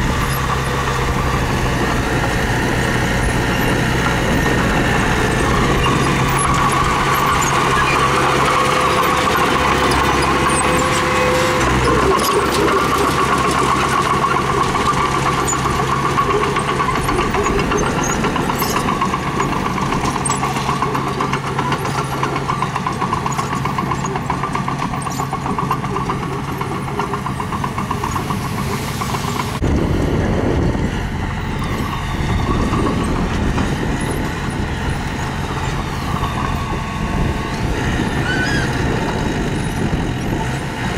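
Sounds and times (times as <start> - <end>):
diesel engine of heavy machinery: 0.0 - 40.9.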